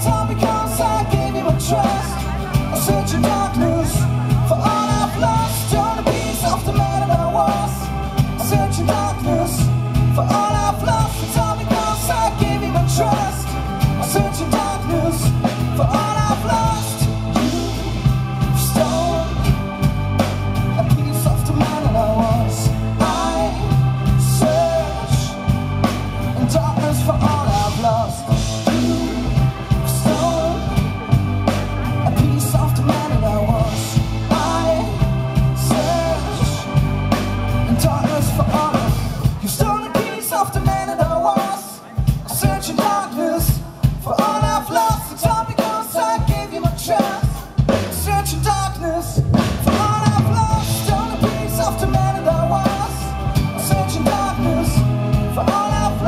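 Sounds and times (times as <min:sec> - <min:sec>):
electric bass: 0:00.0 - 0:39.7, 0:47.7 - 0:56.0
drums: 0:00.0 - 0:56.0
person singing lead vocal: 0:00.0 - 0:56.0.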